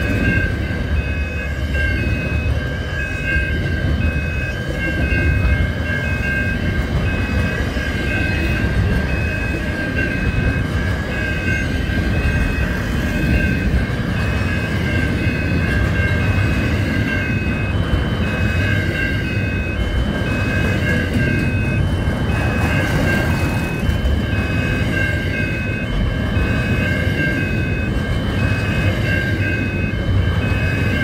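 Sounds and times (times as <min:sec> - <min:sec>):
freight train rumbling past: 0:00.0 - 0:31.0
level crossing warning bell: 0:00.0 - 0:31.0.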